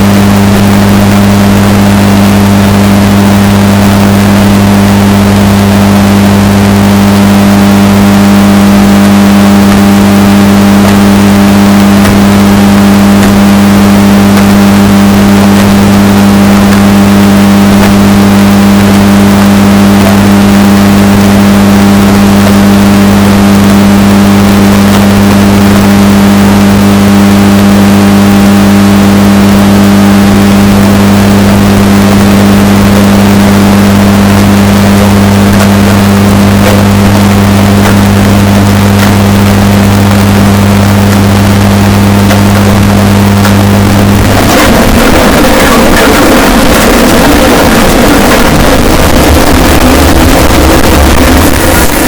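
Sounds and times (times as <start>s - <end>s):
distorted washing machine hum: 0.0s - 52.0s.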